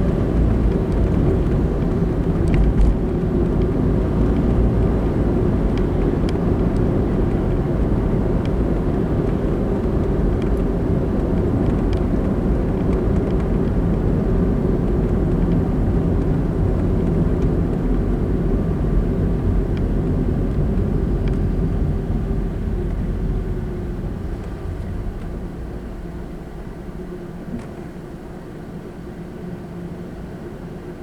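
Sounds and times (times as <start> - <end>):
car tyres and engine rumble: 0.0 - 31.0.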